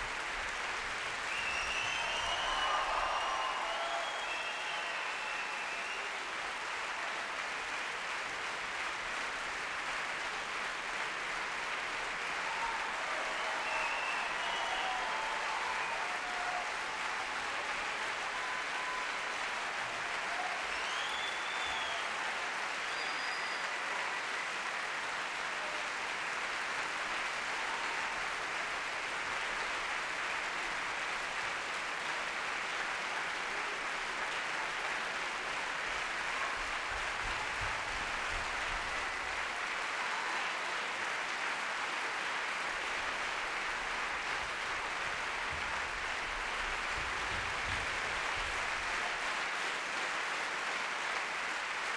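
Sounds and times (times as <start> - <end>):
audience applauding: 0.0 - 51.9.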